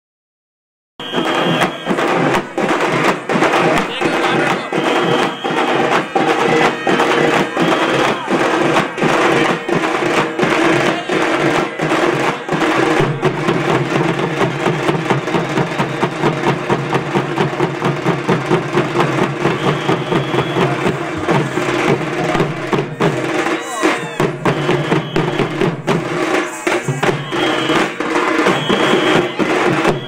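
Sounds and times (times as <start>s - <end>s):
frame drums playing rhythmically: 1.0s - 30.0s.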